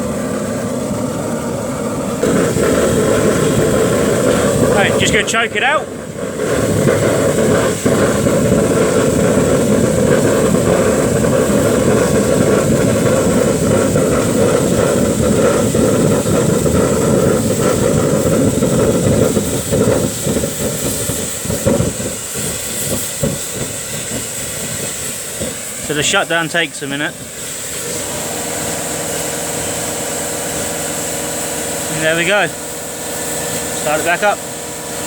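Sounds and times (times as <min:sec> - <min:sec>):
burner sputtering: 0:00.0 - 0:35.0
high whine: 0:00.0 - 0:35.0
oil burner roaring: 0:00.0 - 0:35.0.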